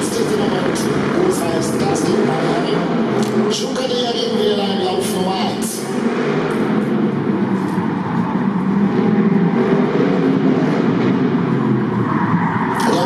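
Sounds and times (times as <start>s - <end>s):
race car engine running: 0.0s - 13.0s.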